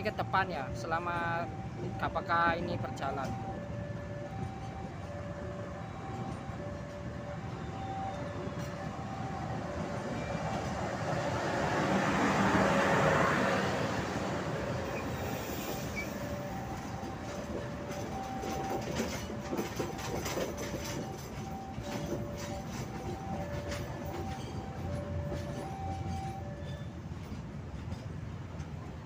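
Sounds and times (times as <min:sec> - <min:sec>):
train wheel and rail rumble: 0:00.0 - 0:29.0
wheels clacking over rail joints: 0:02.8 - 0:28.9.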